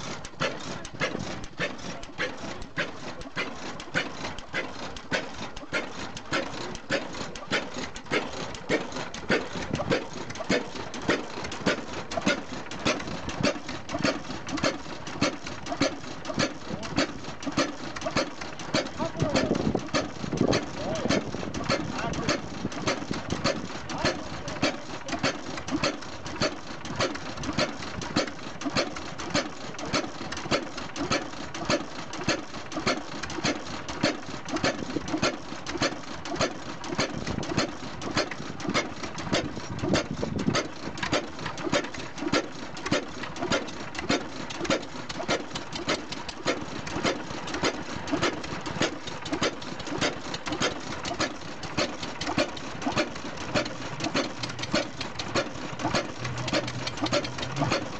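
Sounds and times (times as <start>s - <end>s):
stationary engine running: 0.0s - 57.9s.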